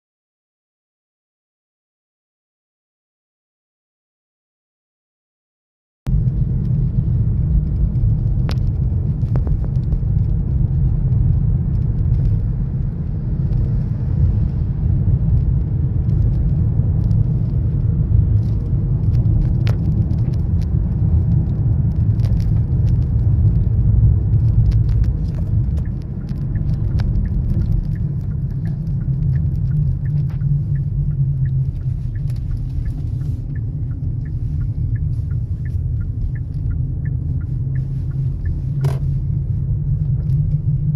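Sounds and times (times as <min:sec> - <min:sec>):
car engine running: 0:06.1 - 0:40.9.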